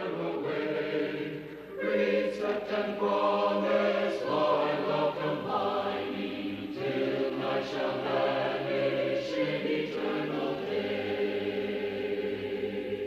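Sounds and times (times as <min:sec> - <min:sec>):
choir singing a slow hymn: 0:00.0 - 0:13.0.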